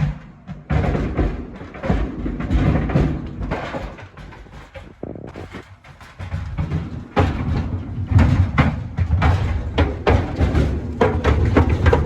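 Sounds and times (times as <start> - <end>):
boots banging in clothes dryer: 0.0 - 12.0.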